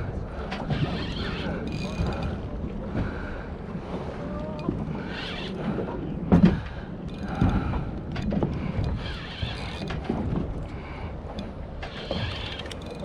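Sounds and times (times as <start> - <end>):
boat engine running low: 0.0 - 13.0
water noise: 0.0 - 13.0
wind: 0.0 - 13.0.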